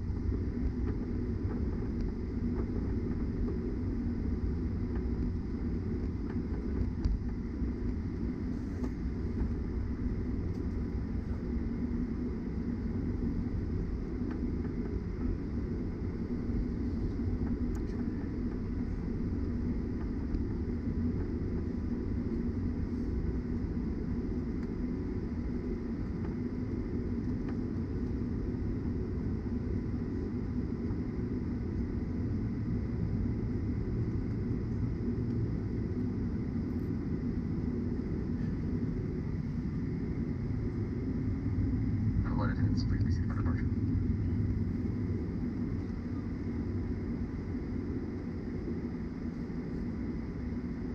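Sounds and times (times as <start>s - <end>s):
faint high whine: 0.0s - 50.9s
low rumble of jet engines: 0.0s - 50.9s.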